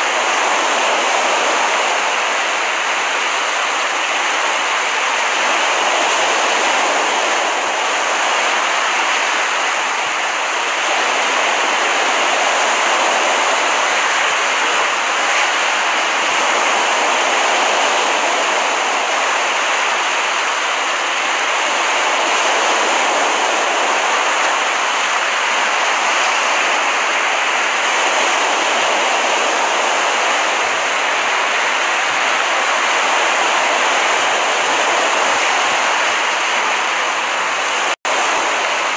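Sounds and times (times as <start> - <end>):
ocean surf: 0.0 - 38.9.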